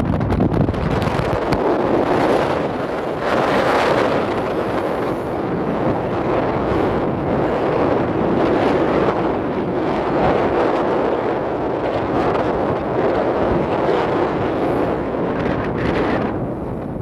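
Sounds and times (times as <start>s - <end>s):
boat engine running: 0.0s - 17.0s
water wash: 0.0s - 17.0s
wind on microphone: 0.0s - 17.0s.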